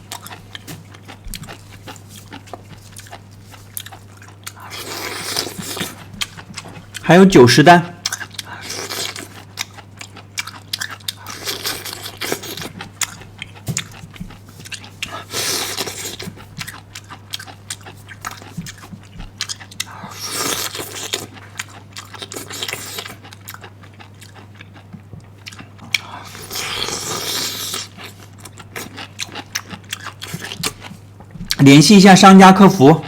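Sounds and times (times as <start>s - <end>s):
person chewing crunchy food: 0.0s - 7.1s, 8.0s - 31.7s.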